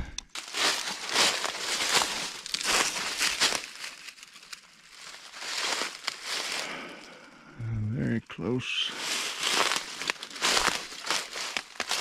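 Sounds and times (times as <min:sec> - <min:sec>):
footsteps crunching dry leaves: 0:00.3 - 0:07.3, 0:08.7 - 0:12.0.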